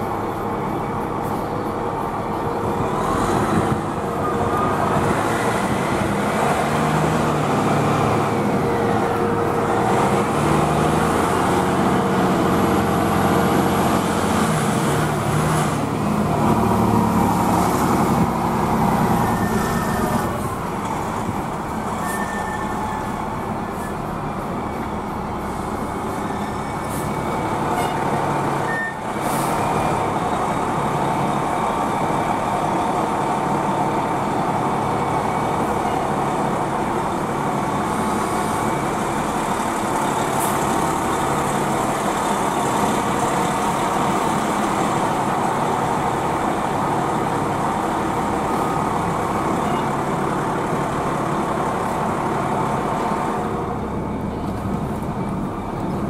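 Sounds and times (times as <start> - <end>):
fire truck diesel engine running: 0.0 - 56.0.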